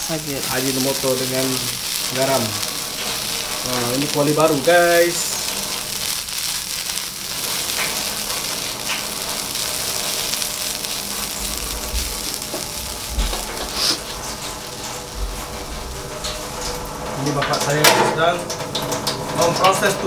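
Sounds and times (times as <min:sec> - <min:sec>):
spatula turning food: 0:00.0 - 0:17.4
food sizzling in a wok: 0:00.0 - 0:20.0.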